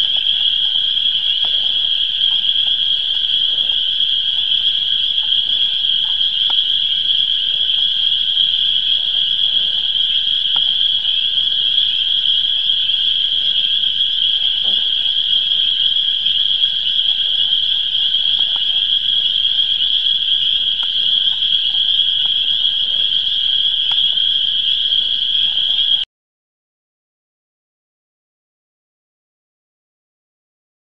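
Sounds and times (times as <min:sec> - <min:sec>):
chorus of frogs calling: 0:00.0 - 0:26.1.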